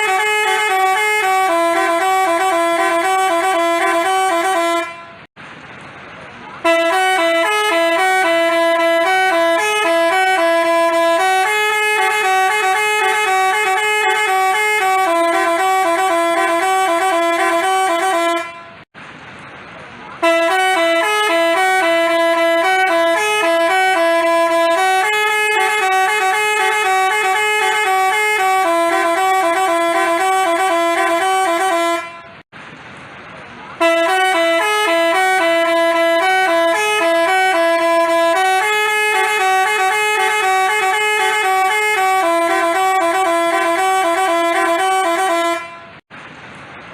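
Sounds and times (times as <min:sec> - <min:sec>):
bus musical horn melody: 0:00.0 - 0:05.3, 0:06.6 - 0:18.9, 0:20.2 - 0:32.5, 0:33.8 - 0:46.1.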